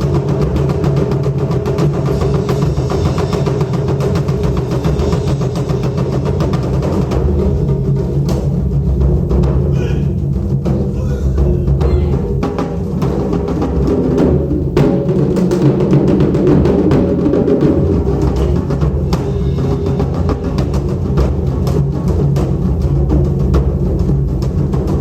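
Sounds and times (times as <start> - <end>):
taiko drums playing: 0.0 - 25.0.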